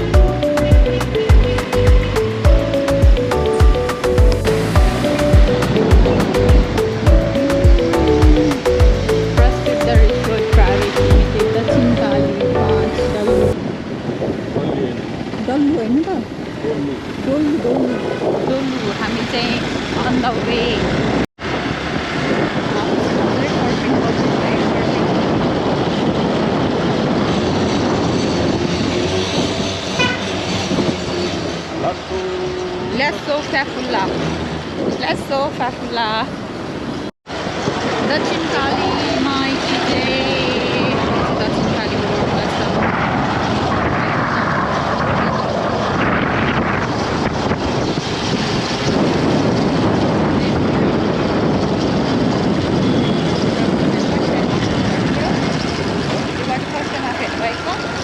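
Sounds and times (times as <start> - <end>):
vehicle rumbling on road: 0.0 - 58.0
wind buffeting microphone: 0.0 - 58.0.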